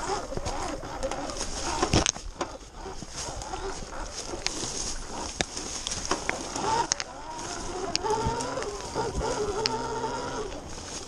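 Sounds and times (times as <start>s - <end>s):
chain and suspension rattle: 0.0s - 11.0s
electric motor whine: 0.0s - 11.0s
sharp clicks and knocks: 0.1s - 3.6s, 4.3s - 10.6s.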